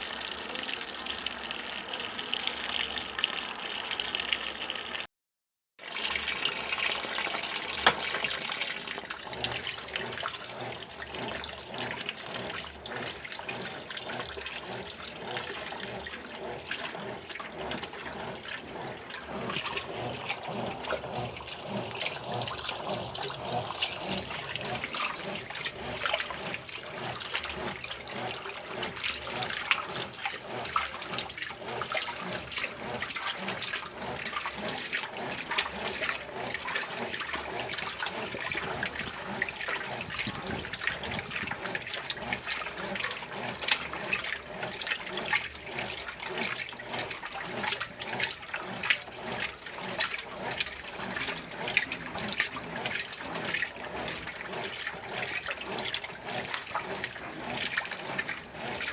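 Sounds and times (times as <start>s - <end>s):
water sloshing in washing machine: 0.0s - 5.1s, 5.8s - 58.9s.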